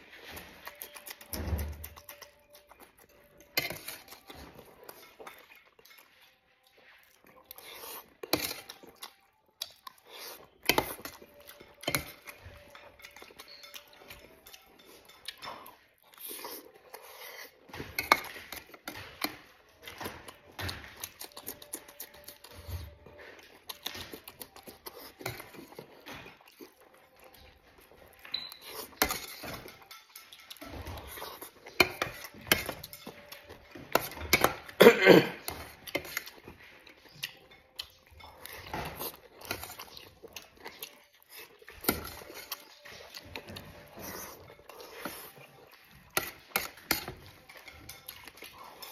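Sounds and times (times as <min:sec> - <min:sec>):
chewing: 0:00.0 - 0:48.9
metal spoon scraping a plate: 0:03.0 - 0:06.2, 0:10.0 - 0:26.5, 0:28.1 - 0:34.8, 0:35.4 - 0:48.9.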